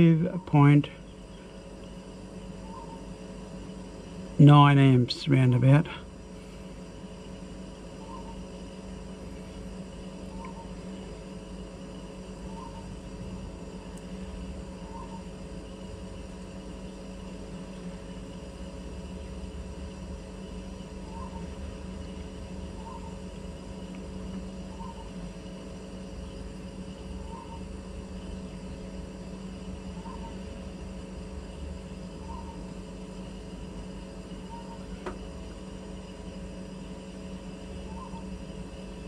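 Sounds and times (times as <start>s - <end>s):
fridge compressor humming: 0.0s - 39.0s.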